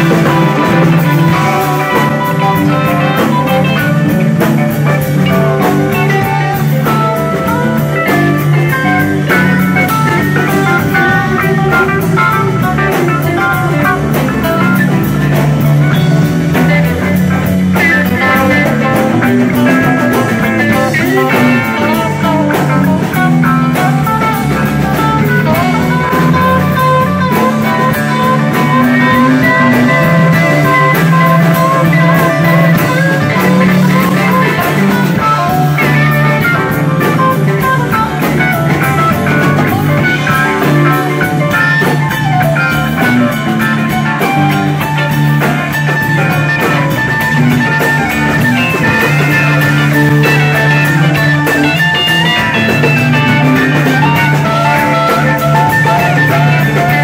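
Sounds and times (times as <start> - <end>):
instrumental rock band playing: 0.0 - 57.0.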